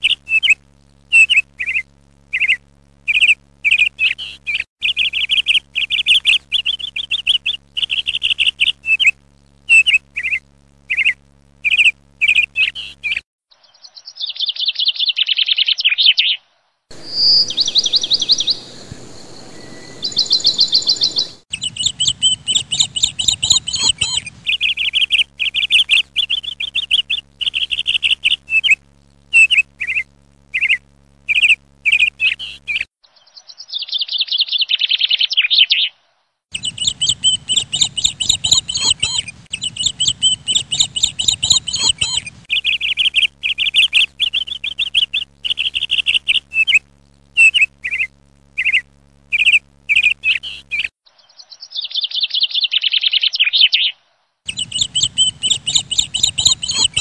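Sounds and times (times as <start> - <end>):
small birds chirping: 2.4 - 28.8, 29.4 - 35.9, 36.5 - 46.8, 47.4 - 57.0.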